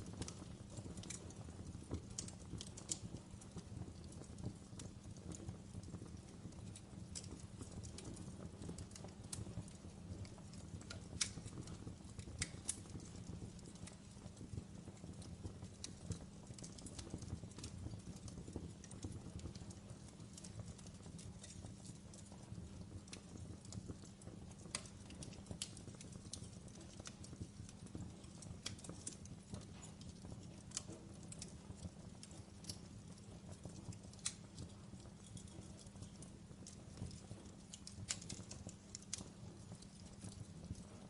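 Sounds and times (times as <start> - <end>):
fire crackling and popping: 0.0 - 41.0
fire low rumble: 0.0 - 41.0.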